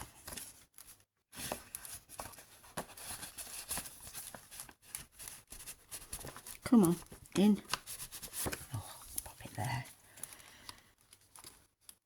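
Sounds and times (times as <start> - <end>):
paper and card rustling: 0.0 - 12.0.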